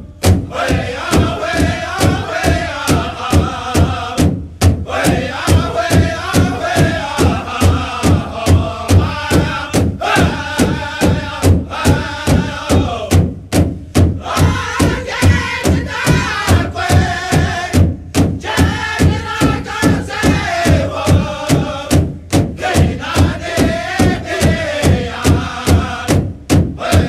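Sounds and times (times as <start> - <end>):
big drum beaten in unison: 0.0 - 27.0
high-pitched chanted vocals: 0.5 - 13.2, 14.2 - 17.8, 18.4 - 22.0, 22.6 - 26.2, 26.8 - 27.0.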